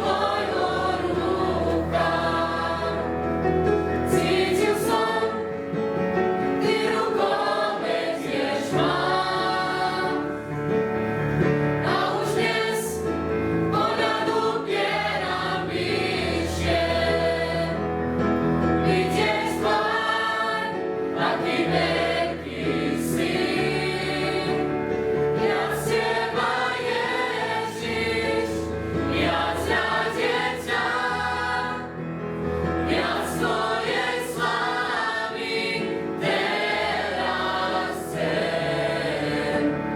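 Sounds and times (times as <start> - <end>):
youth choir singing: 0.0 - 10.6, 11.7 - 39.9.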